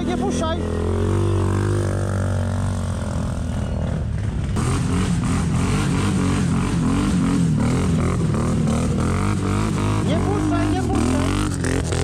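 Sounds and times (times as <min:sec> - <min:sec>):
atv engine under full throttle: 0:00.0 - 0:12.0.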